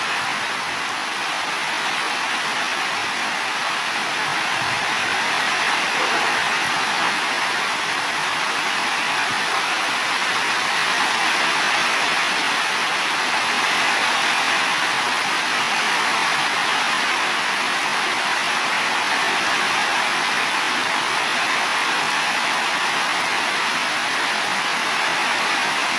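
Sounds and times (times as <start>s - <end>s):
heavy rain on roofs: 0.0s - 25.9s.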